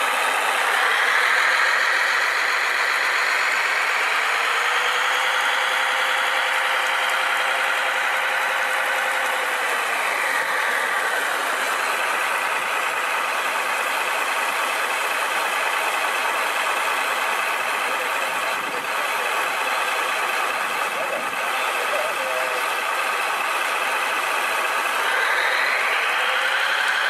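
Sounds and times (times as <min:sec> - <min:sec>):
toy truck motors whining: 0:00.0 - 0:27.0.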